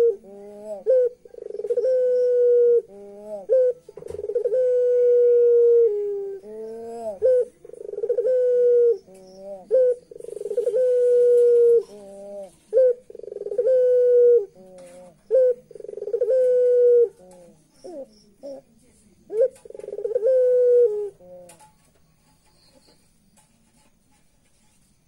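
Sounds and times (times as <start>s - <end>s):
turtle dove cooing: 0.0s - 21.8s.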